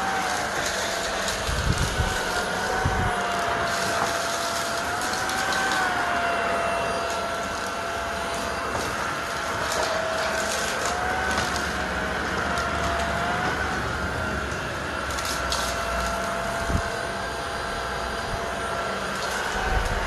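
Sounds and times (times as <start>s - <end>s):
stick vacuum running: 0.0s - 20.0s.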